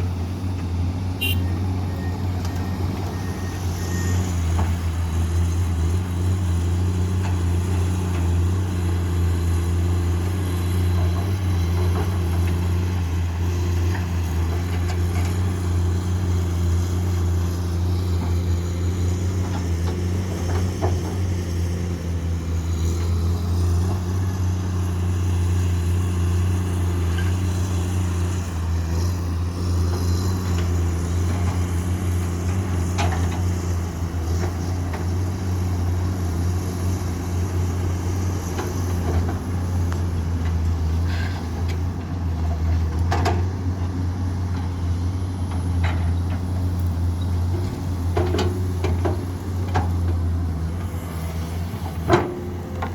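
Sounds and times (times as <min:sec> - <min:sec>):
excavator diesel engine drone: 0:00.0 - 0:52.9.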